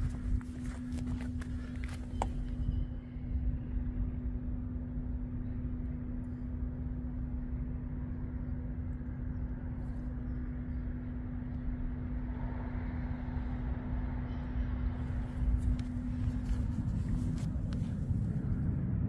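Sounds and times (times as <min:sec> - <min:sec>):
constant hum: 0:00.0 - 0:19.0
engine idling low rumble: 0:00.0 - 0:19.0.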